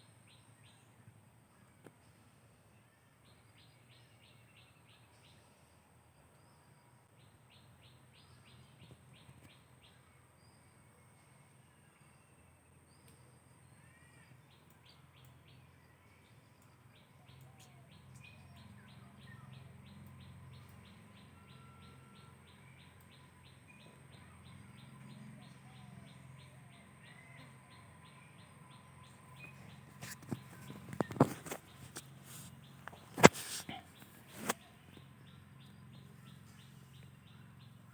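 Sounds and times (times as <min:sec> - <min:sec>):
distant birds chirping: 0:00.0 - 0:37.9.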